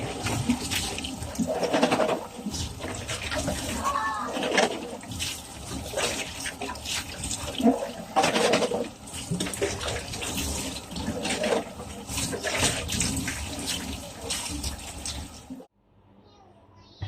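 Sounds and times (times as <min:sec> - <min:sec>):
water running and splashing: 0:00.0 - 0:15.7
water spatters: 0:00.0 - 0:15.7.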